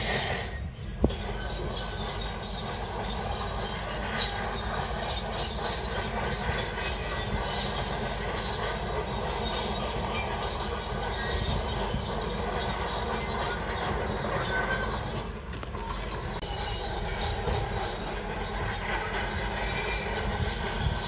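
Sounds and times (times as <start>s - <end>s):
bulldozer diesel engine running: 0.0s - 21.0s
steel tracks clattering and squealing: 0.0s - 21.0s.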